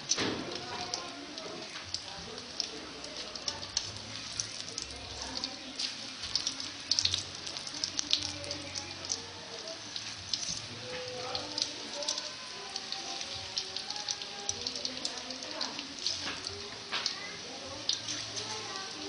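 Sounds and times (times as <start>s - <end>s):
oil sizzling with crackles: 0.0s - 19.0s.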